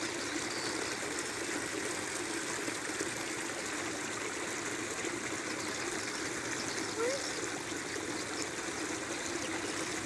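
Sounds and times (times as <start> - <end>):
flowing water rushing: 0.0 - 10.0.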